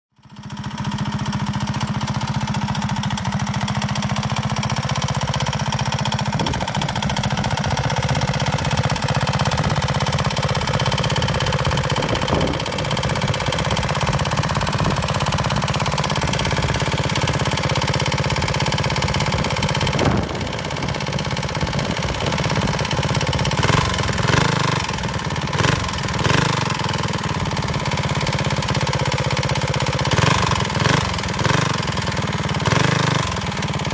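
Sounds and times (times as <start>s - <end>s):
go-kart engine running: 0.2s - 33.9s.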